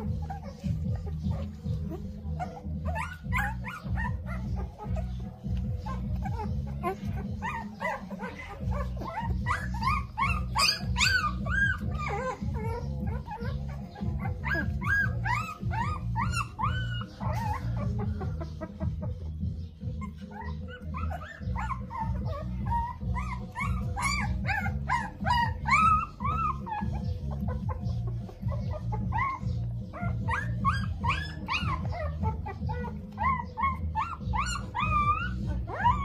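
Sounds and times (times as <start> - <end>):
puppy whimpering: 0.0 - 36.0.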